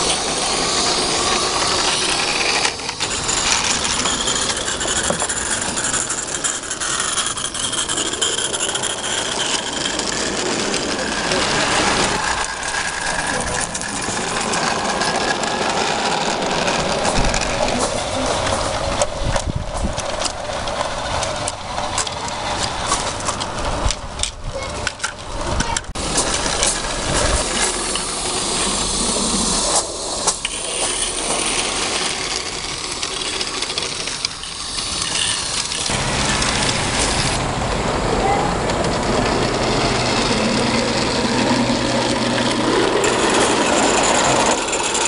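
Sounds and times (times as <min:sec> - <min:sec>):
steam hissing: 0:00.0 - 0:18.9, 0:26.0 - 0:45.0
wagons rattling over track joints: 0:00.0 - 0:45.0.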